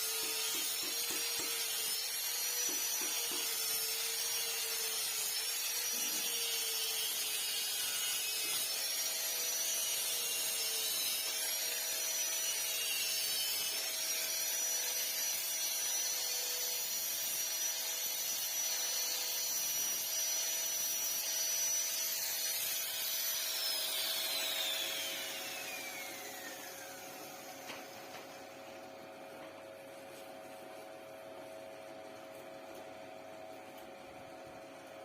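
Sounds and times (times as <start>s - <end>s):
power tool whining and winding down: 0.0s - 29.3s.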